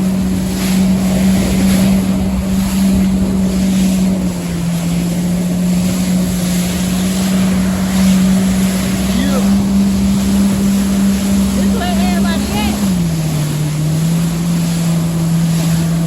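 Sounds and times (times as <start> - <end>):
jet ski engine running: 0.0 - 16.0
water rushing past hull: 0.0 - 16.0
wind buffeting microphone: 0.0 - 16.0.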